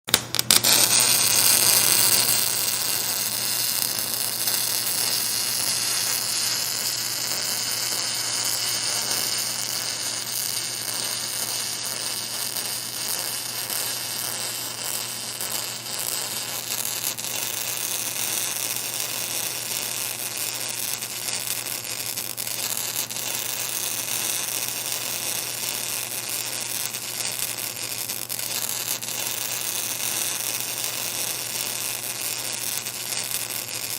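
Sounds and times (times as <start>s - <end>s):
welding arc crackling and hissing: 0.0s - 33.9s
constant electrical hum: 0.1s - 33.9s.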